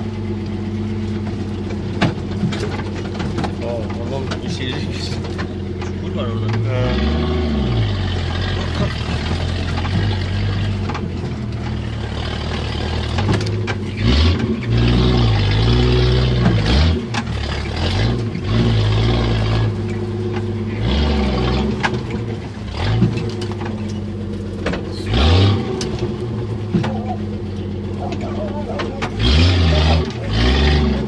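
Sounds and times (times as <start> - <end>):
car engine revving: 0.0 - 31.0
knocks and rattles: 1.2 - 6.7, 8.3 - 30.4.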